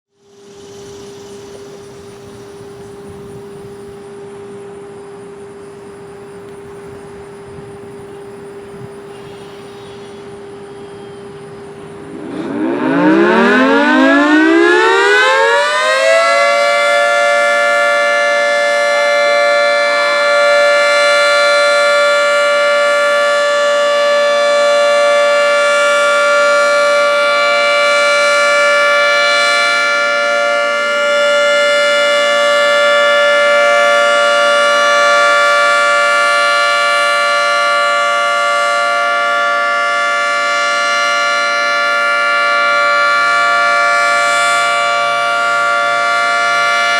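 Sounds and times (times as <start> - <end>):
outdoor warning siren: 0.1 - 46.9.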